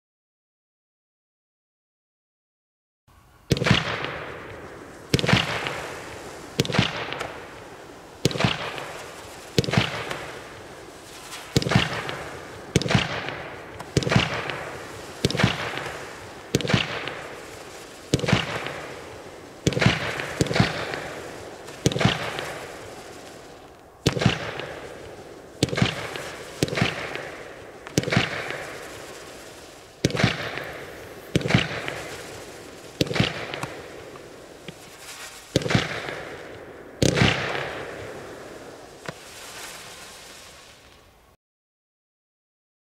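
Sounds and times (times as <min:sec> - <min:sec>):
fireworks cracking and crackling: 0:03.5 - 0:41.4.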